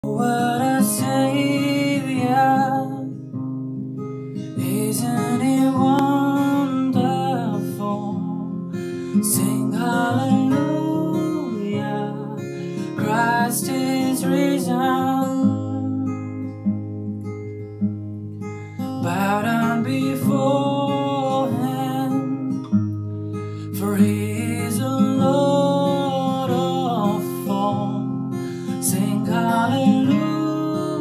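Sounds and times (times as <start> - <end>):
man singing: 0.0 - 3.2, 4.6 - 16.3, 19.0 - 22.7, 23.6 - 31.0
acoustic guitar chords: 0.0 - 31.0.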